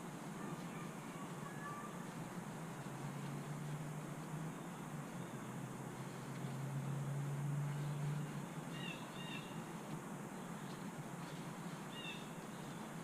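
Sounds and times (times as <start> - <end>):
low hum and hiss: 0.0 - 13.0
bird chirping faintly: 0.4 - 13.0.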